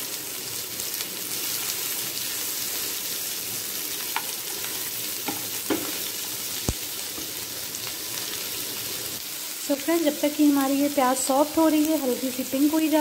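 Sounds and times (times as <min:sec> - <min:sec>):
onions sizzling in a frying pan: 0:00.0 - 0:13.0.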